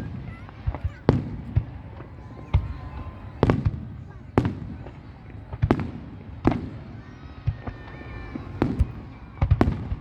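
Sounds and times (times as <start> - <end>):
fireworks banging with echo: 0.0 - 10.0.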